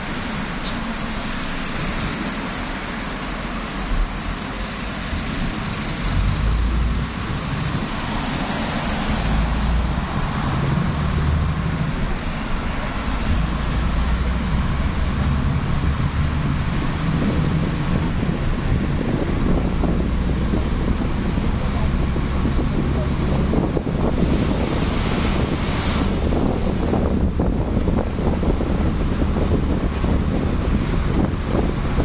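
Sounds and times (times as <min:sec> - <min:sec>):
deep vehicle rumble: 0:00.0 - 0:32.0
highway traffic: 0:00.0 - 0:32.0.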